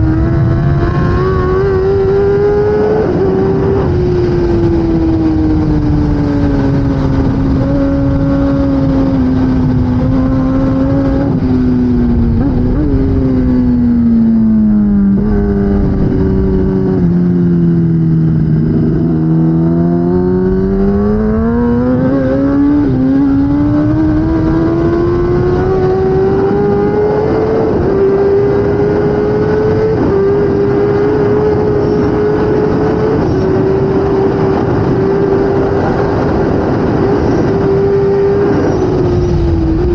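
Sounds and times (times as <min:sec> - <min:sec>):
motorcycle engine shifting gears: 0:00.0 - 0:39.9
wind rush: 0:00.0 - 0:39.9.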